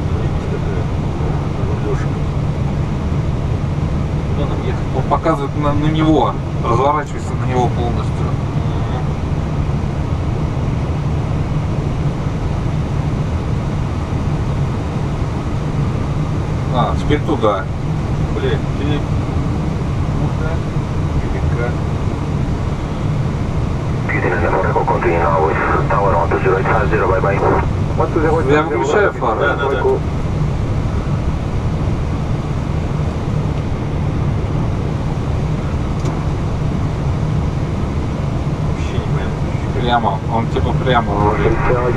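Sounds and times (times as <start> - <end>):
air conditioning: 0.0 - 41.9
aircraft engines idling rumble: 0.0 - 41.9.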